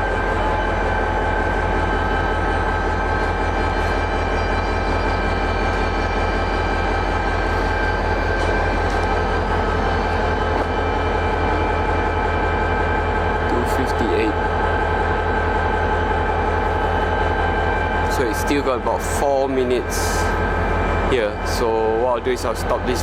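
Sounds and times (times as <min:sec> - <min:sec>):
diesel locomotive idling: 0:00.0 - 0:23.0
steady whining tones: 0:00.0 - 0:23.0.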